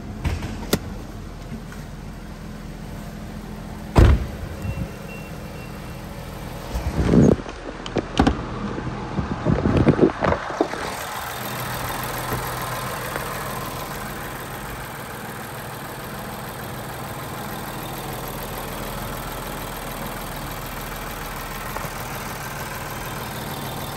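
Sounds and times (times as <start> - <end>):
car engine idling: 0.0 - 8.9, 9.7 - 23.9.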